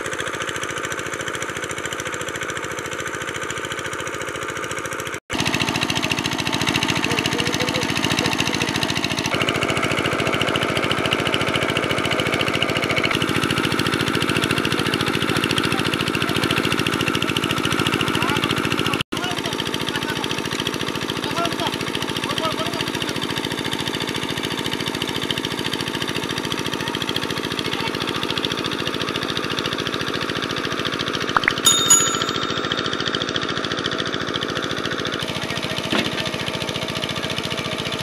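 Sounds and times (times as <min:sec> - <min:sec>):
diesel engine driving water pump: 0:00.0 - 0:31.4, 0:32.8 - 0:38.0.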